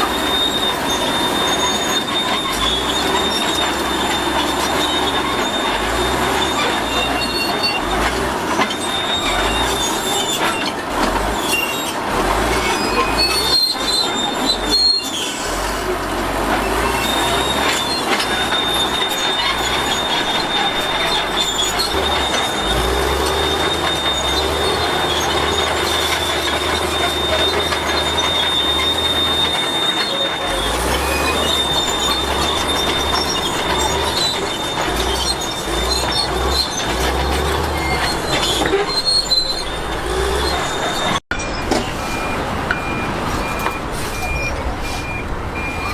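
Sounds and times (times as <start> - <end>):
bulldozer engine running: 0.0 - 45.9
crawler tracks squealing and clanking: 0.0 - 45.9.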